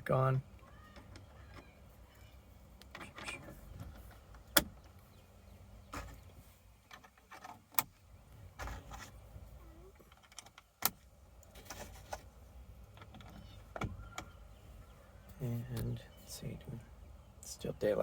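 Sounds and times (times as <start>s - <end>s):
handling noise: 0.0s - 16.0s.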